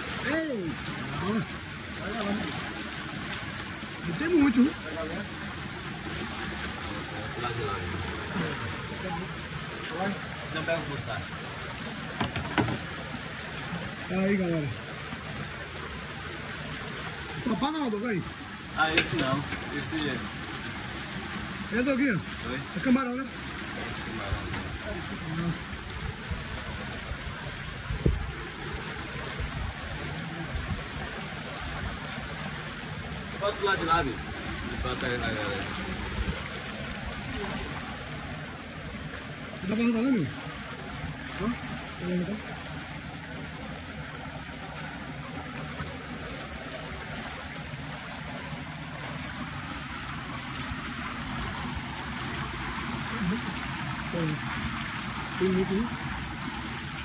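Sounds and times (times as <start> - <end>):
water gushing into a pool: 0.0 - 57.0.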